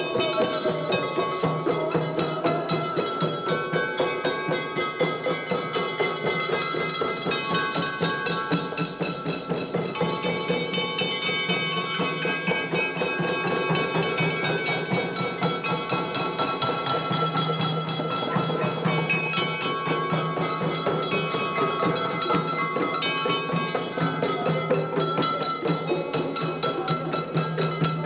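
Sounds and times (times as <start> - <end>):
frame drums beating: 0.0 - 28.0.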